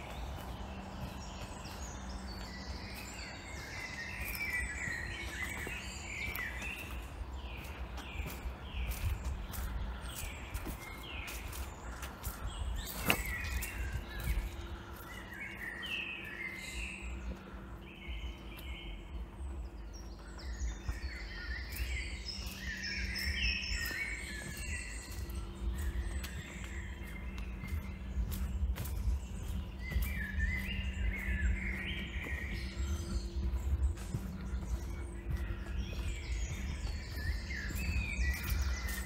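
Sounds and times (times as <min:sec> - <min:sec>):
footsteps on dirt path: 0:00.0 - 0:39.0
outdoor background hush: 0:00.0 - 0:39.0
songbirds singing and chirping: 0:00.0 - 0:39.0.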